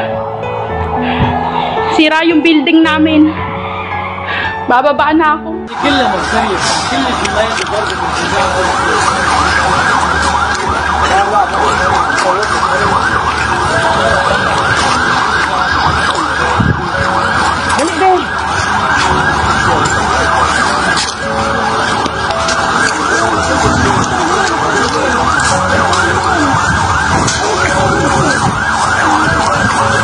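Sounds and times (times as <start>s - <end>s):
alarms and sirens wailing: 0.0s - 30.0s.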